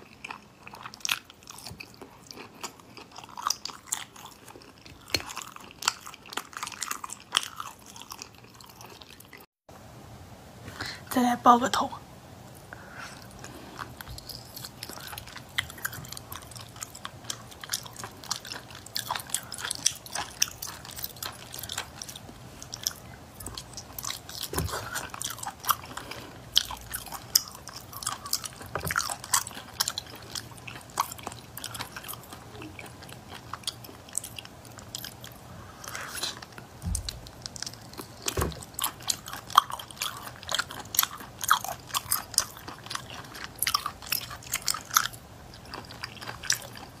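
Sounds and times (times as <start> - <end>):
chewing with mouth clicks: 0.0 - 9.5, 12.6 - 47.0.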